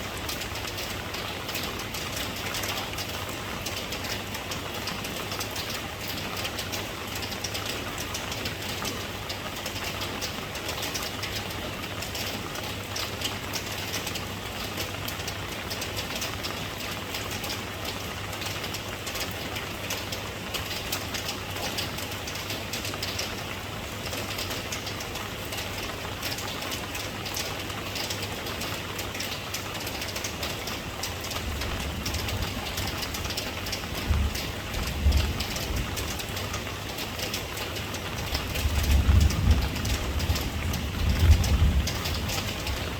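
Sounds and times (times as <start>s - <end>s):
steady rain pattering: 0.0s - 42.9s.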